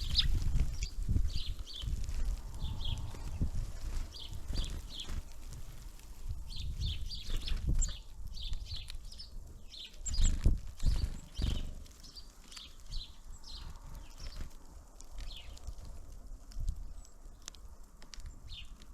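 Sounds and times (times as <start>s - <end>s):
small birds calling: 0.0s - 16.0s, 16.6s - 18.9s.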